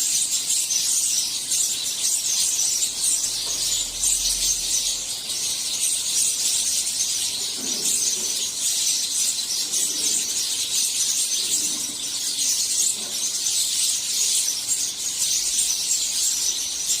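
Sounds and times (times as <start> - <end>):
flock of sparrows chirping: 0.0 - 17.0.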